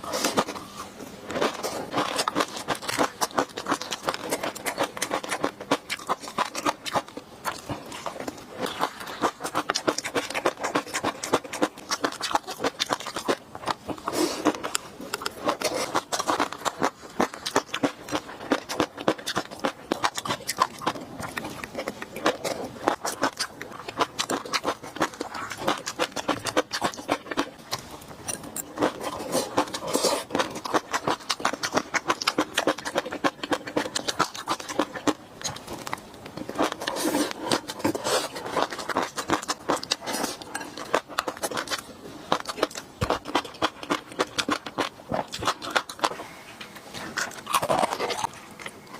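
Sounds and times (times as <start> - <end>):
person chewing wet mouth sounds: 0.0 - 48.9.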